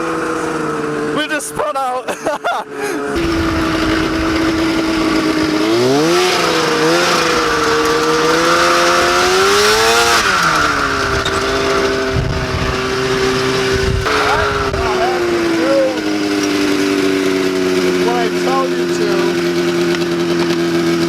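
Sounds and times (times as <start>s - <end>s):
go-kart engine revving: 0.0s - 21.0s.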